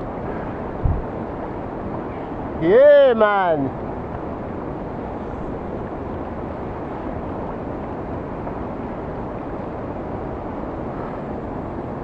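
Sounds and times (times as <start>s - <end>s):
whitewater roaring below weir: 0.0s - 12.0s.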